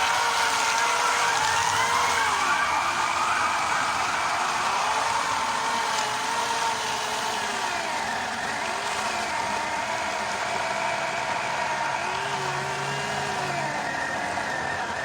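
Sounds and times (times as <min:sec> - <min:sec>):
electric chainsaw cutting wood: 0:00.0 - 0:15.0.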